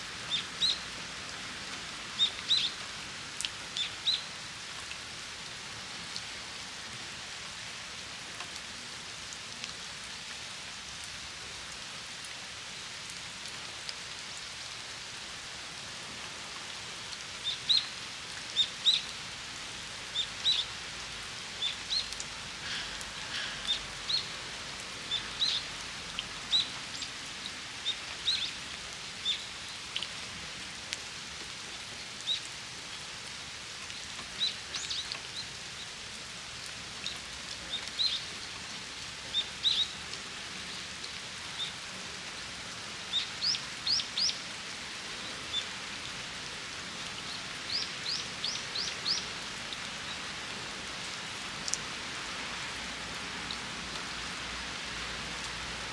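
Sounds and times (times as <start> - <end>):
rain falling on water basin: 0.0 - 55.9.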